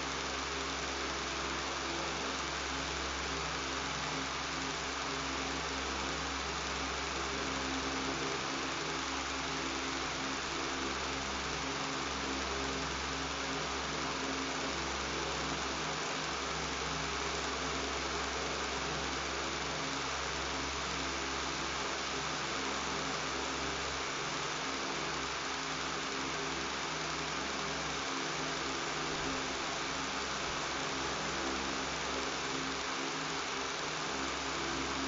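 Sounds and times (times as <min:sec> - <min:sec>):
electric fan rushing hiss: 0:00.0 - 0:35.0
fan motor hum and buzz: 0:00.0 - 0:35.0.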